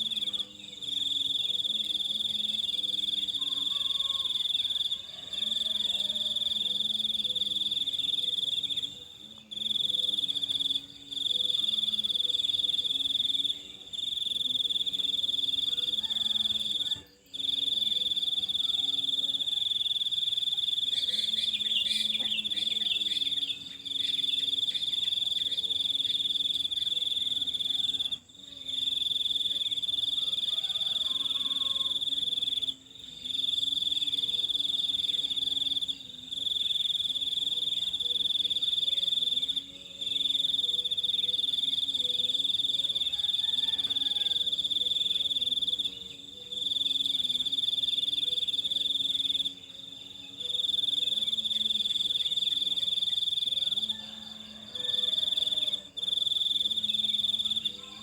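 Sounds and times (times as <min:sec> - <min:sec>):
insect trilling: 0:00.0 - 0:58.0.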